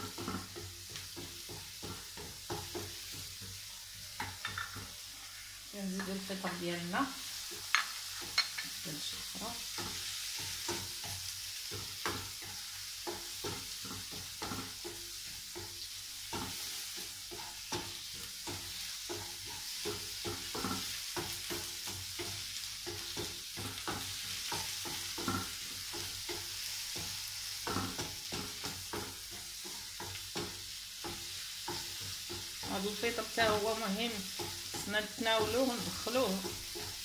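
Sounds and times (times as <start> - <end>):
mushrooms and onion sizzling: 0.0 - 37.0
wooden spatula scraping a pan: 0.0 - 37.0.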